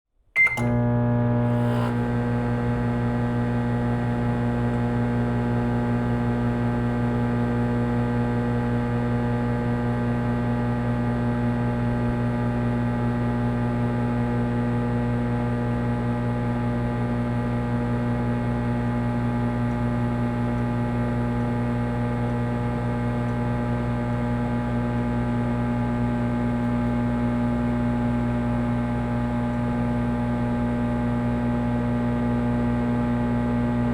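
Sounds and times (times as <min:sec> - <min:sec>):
microwave oven humming: 0:00.4 - 0:33.9.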